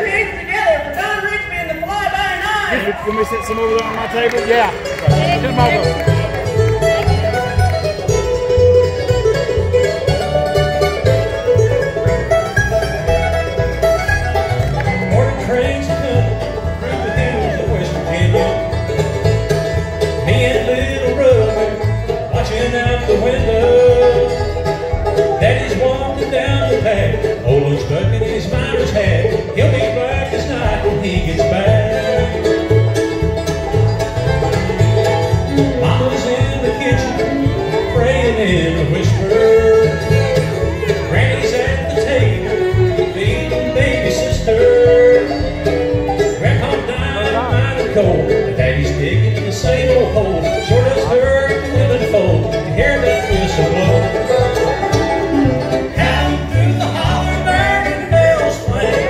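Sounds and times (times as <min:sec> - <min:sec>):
bluegrass band playing: 0:00.0 - 0:59.0
upright bass steady beat: 0:04.5 - 0:59.0.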